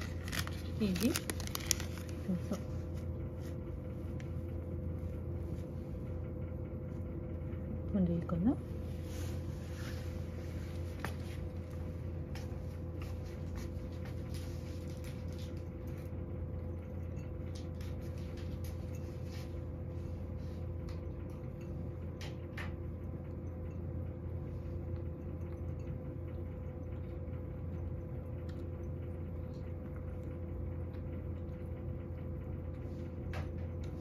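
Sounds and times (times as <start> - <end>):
cat chewing: 0.0 - 7.7, 9.0 - 34.0
low electrical hum: 0.0 - 34.0.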